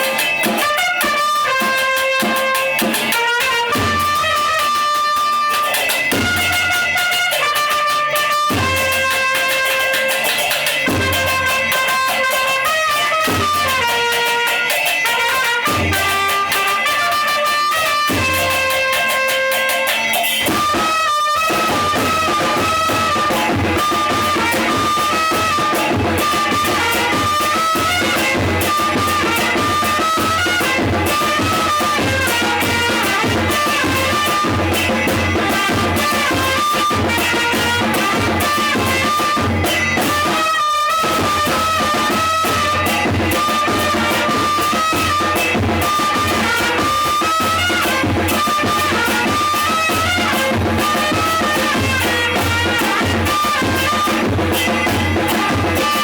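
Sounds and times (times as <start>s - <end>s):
snare drum: 0.0s - 56.0s
trumpets playing a melody: 0.0s - 56.0s.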